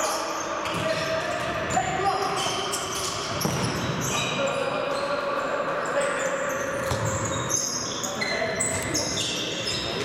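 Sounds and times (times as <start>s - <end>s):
shoes squeaking on court floor: 0.0s - 10.0s.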